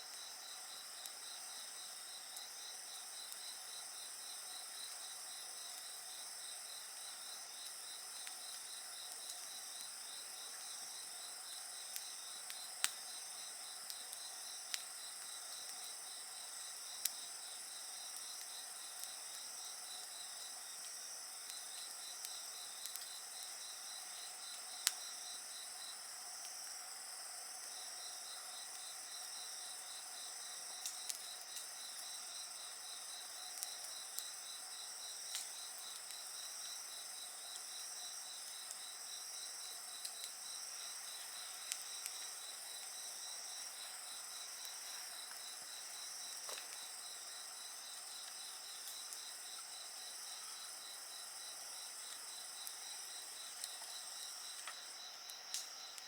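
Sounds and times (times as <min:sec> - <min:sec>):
insects trilling: 0:00.0 - 0:56.0
wood fire crackles: 0:00.0 - 0:56.0.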